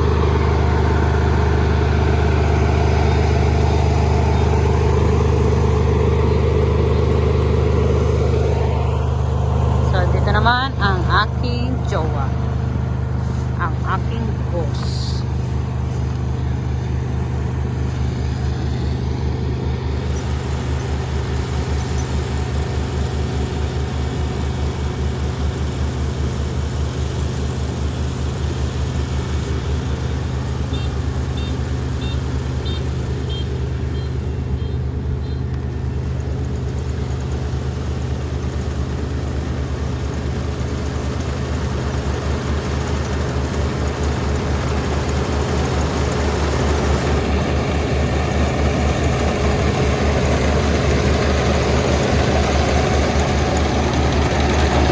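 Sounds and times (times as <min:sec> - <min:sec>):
combine harvester diesel engine: 0:00.0 - 0:54.9.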